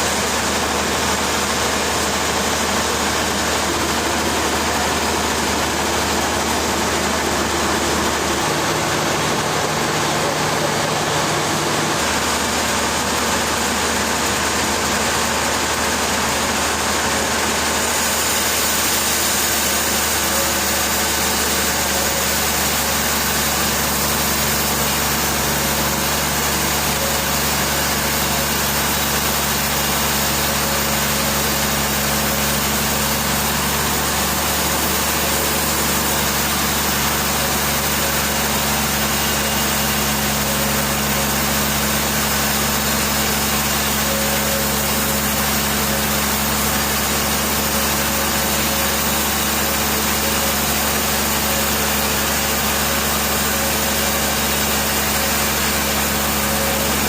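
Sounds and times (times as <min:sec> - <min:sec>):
heavy machinery humming: 0:00.0 - 0:57.0.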